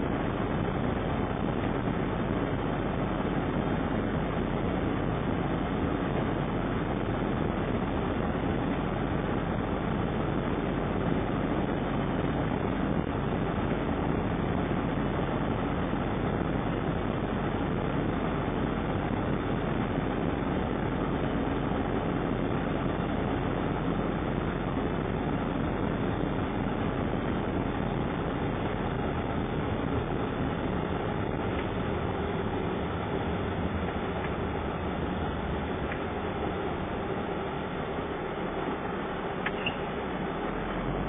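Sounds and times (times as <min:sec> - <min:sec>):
engine and tyre rumble: 0:00.0 - 0:41.0.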